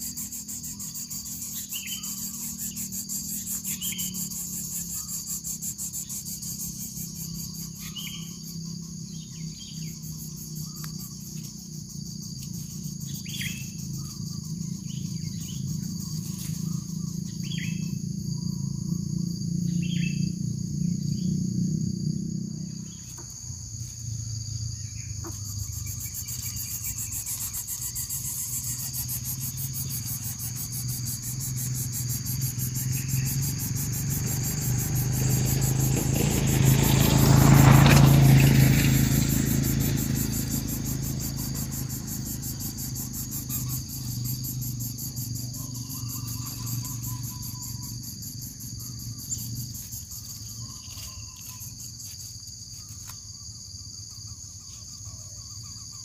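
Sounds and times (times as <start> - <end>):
crickets droning: 0.0 - 56.0
insect chirps: 0.0 - 56.0.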